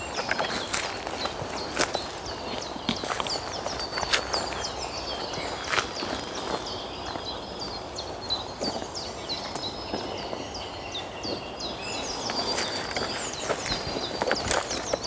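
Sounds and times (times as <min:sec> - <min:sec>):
birds chirping: 0:00.0 - 0:15.0
footsteps crunching through twigs: 0:00.0 - 0:15.0.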